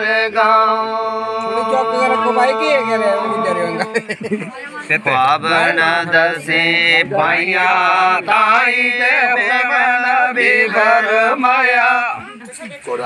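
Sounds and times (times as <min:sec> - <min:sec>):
man chanting in sung melody: 0:00.0 - 0:04.2, 0:05.0 - 0:12.2.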